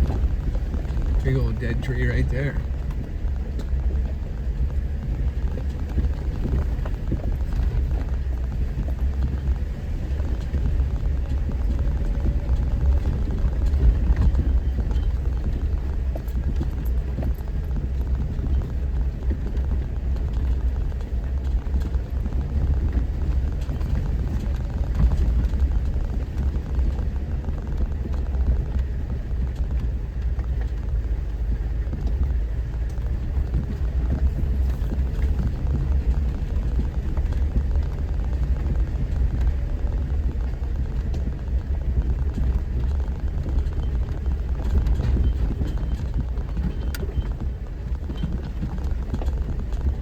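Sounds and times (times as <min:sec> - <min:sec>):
small knocks and rattles: 0:00.0 - 0:50.0
vehicle engine and road rumble: 0:00.0 - 0:50.0.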